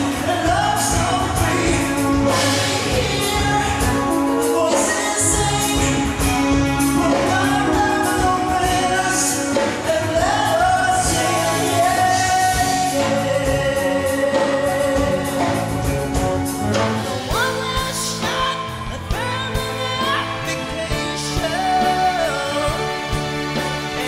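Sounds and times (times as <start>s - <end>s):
live rock band: 0.0s - 24.0s.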